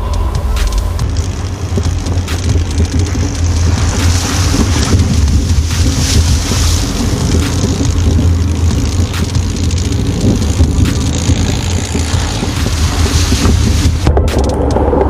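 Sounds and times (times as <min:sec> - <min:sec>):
car engine droning: 0:00.0 - 0:15.0
sharp ticks: 0:00.0 - 0:15.0.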